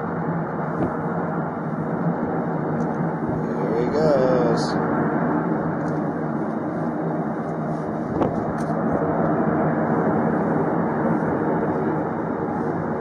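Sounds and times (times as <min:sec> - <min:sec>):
distant jet engines rumbling: 0:00.0 - 0:13.0.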